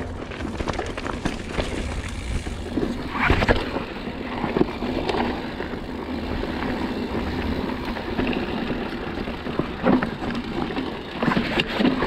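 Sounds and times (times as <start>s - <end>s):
bike rattling: 0.0s - 12.0s
tyres crunching over gravel: 0.0s - 12.0s.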